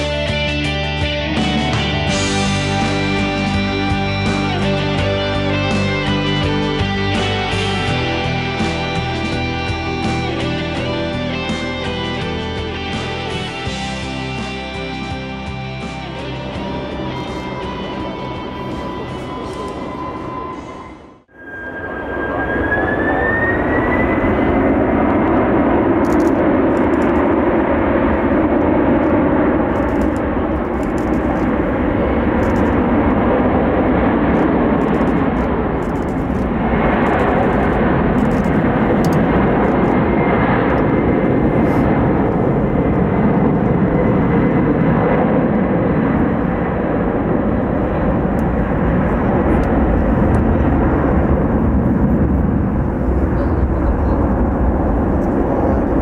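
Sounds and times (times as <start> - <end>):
high jet engine whine: 0.0 - 56.0
jet engine roar: 0.0 - 56.0.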